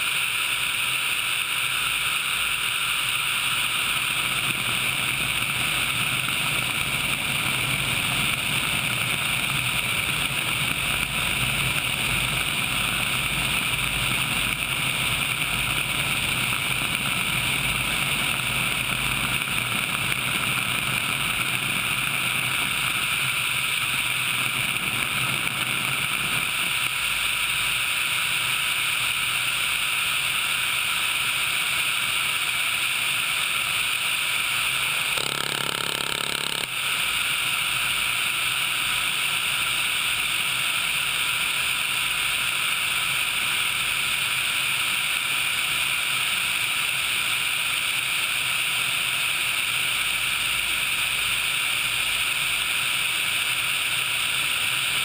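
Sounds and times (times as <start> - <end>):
helicopter in flight rushing noise: 0.0 - 55.0.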